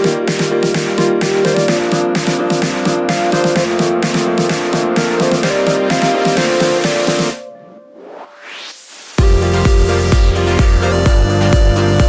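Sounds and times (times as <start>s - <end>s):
fast electronic beat music: 0.0s - 7.5s, 8.3s - 12.0s.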